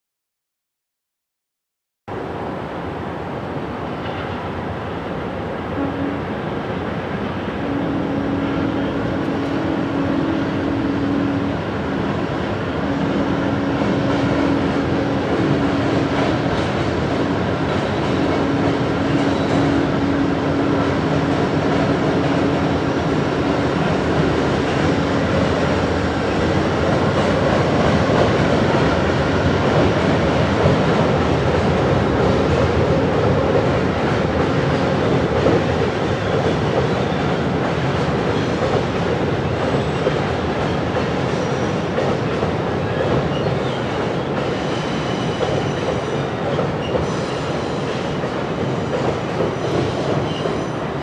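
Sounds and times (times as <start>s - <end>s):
train rumbling by: 2.1s - 51.0s.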